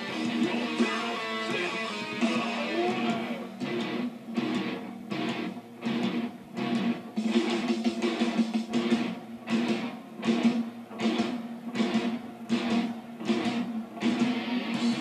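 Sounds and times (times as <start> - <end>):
heavy metal guitar riff: 0.0 - 15.0.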